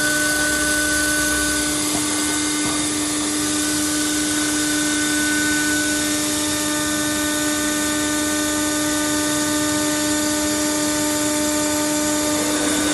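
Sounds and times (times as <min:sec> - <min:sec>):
laser cutting machine hissing: 0:00.0 - 0:12.9.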